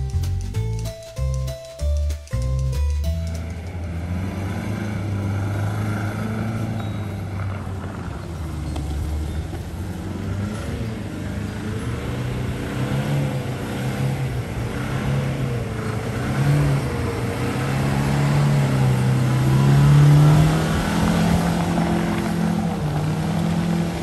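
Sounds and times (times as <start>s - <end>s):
car engine revving: 3.1s - 24.0s
wheel spinning on snow: 4.1s - 24.0s.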